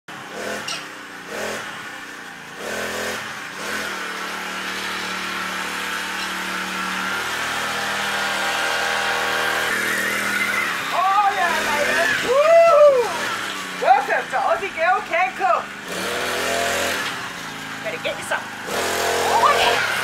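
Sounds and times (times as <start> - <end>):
small petrol engine revving: 0.1 - 20.0.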